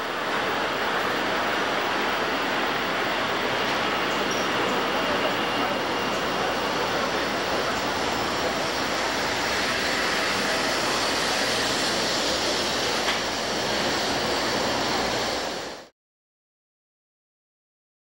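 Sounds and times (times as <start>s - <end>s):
train passing on track: 0.0s - 15.9s.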